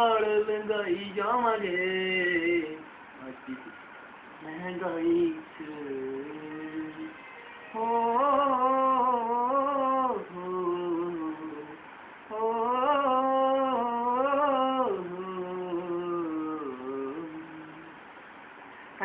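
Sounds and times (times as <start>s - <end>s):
man singing unaccompanied: 0.0s - 3.8s, 4.4s - 18.0s.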